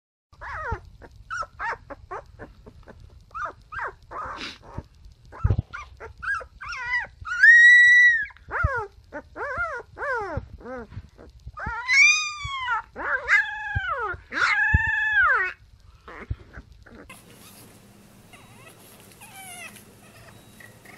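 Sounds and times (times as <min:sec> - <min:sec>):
puppy howling: 0:00.4 - 0:02.5, 0:03.3 - 0:10.9, 0:11.6 - 0:17.1, 0:18.3 - 0:20.9
puppy yipping: 0:00.4 - 0:17.6, 0:18.3 - 0:20.9.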